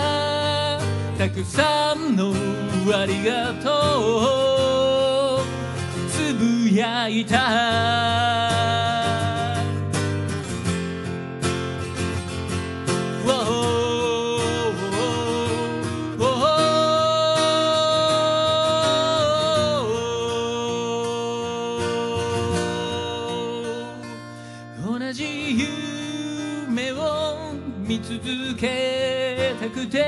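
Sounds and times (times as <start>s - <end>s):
man singing: 0.0s - 10.0s, 12.9s - 30.0s
strummed acoustic guitar: 0.0s - 30.0s.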